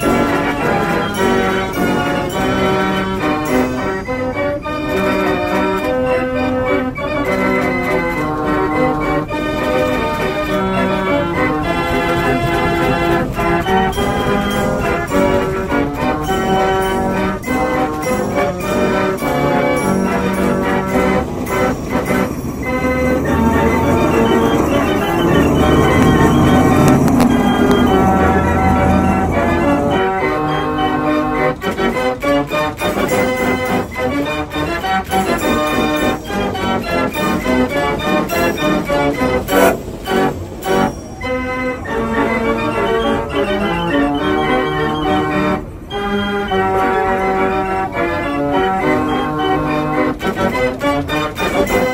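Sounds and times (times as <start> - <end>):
brass tune with bell tones: 0.0 - 51.9
lively organ music: 0.0 - 51.9.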